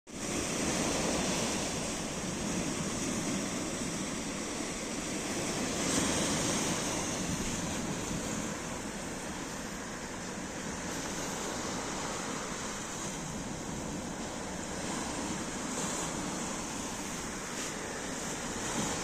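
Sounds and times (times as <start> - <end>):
waves breaking on pebble beach: 0.2 - 19.0.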